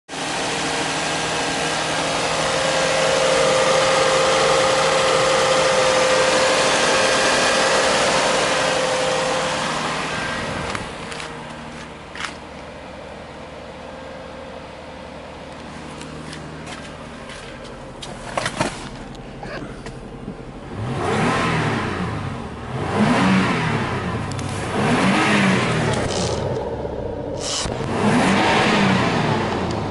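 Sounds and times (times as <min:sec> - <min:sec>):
car engine idling: 0:00.1 - 0:29.9.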